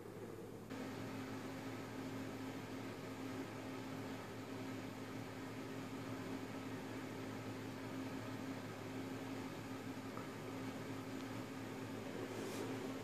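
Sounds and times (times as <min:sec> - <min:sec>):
computer fans whirring: 0:00.0 - 0:13.0.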